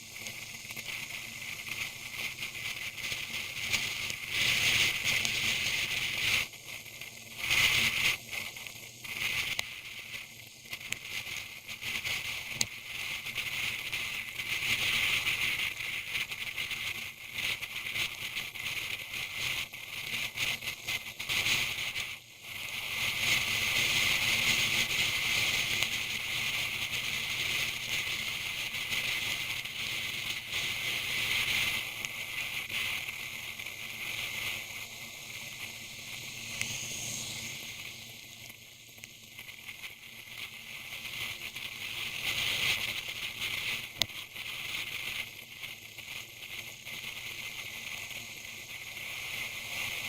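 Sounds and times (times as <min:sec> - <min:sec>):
hissing rain and road spray: 0:00.0 - 0:06.6, 0:07.4 - 0:50.0.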